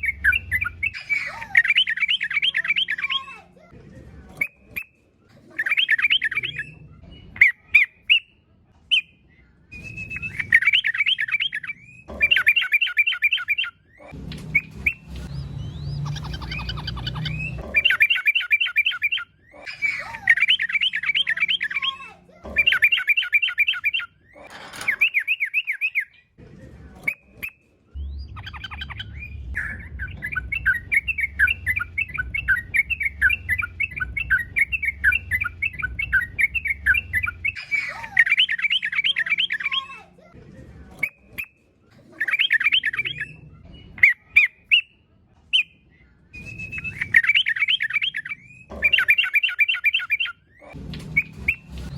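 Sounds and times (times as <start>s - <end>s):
bird singing chattering phrases: 0.0s - 3.7s, 4.4s - 26.4s, 27.0s - 40.4s, 41.0s - 51.9s.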